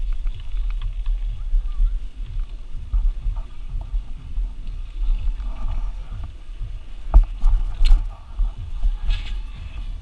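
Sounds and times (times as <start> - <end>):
bike rattling over gravel: 0.0 - 10.0
wind rumble: 0.0 - 10.0.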